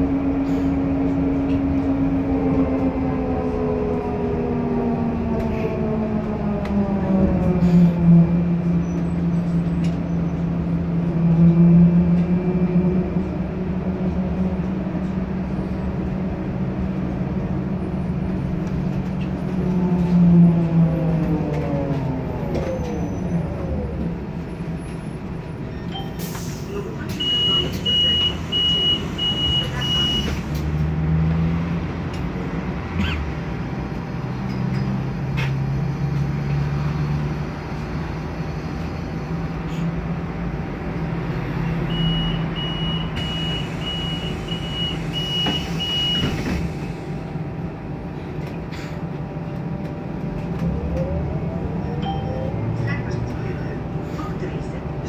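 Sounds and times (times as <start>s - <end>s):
trolleybus motor whine: 0.0s - 55.0s.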